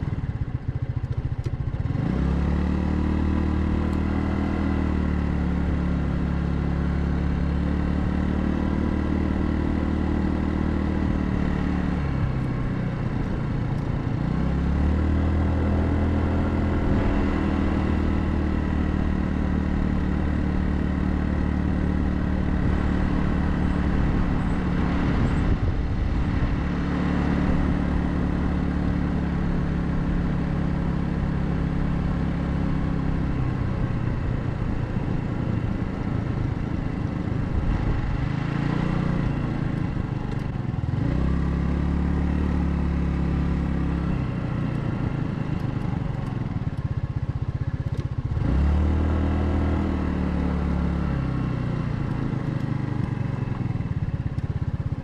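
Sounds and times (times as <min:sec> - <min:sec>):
scooter engine running: 0:00.0 - 0:55.0
wind and road noise: 0:00.0 - 0:55.0.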